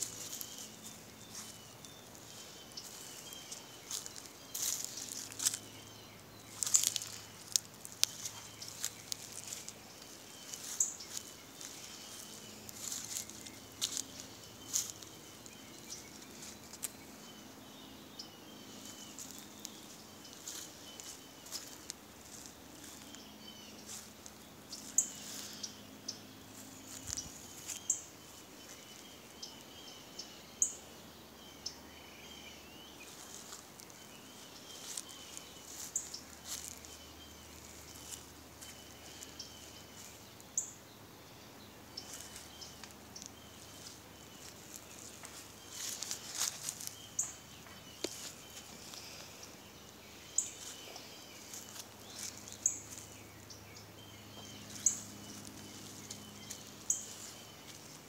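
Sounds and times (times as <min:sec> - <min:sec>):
rustles: 0:00.0 - 0:30.8, 0:32.9 - 0:58.0
faint low hum: 0:00.0 - 0:58.0
small birds chirping: 0:00.0 - 0:58.0.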